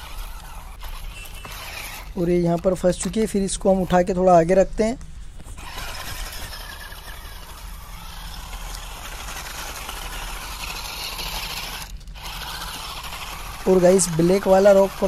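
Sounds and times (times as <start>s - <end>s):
toy car motor whirring: 0.0s - 4.7s, 5.4s - 15.0s.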